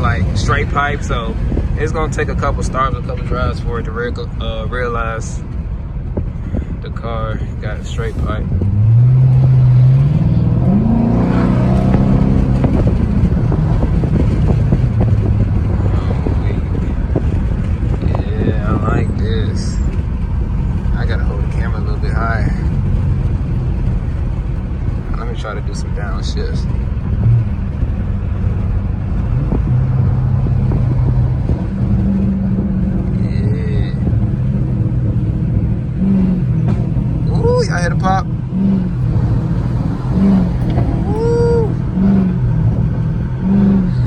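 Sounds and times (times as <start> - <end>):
loud car exhaust accelerating: 0.0 - 44.0.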